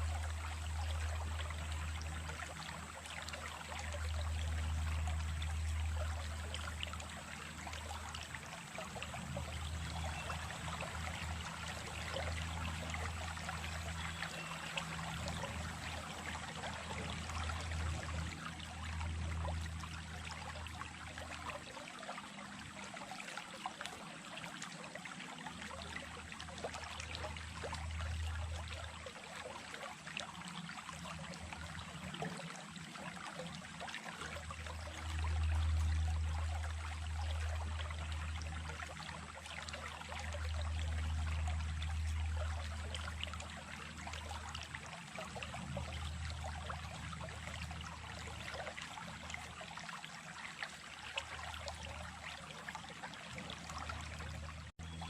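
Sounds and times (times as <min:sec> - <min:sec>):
small stream babbling: 0:00.0 - 0:55.0.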